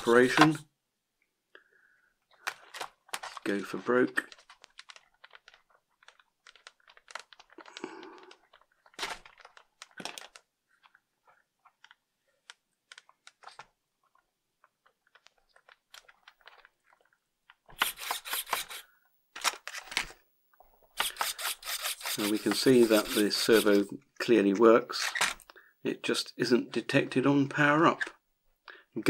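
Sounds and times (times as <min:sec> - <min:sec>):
handling plastic model parts: 0:00.0 - 0:00.7, 0:02.1 - 0:25.6.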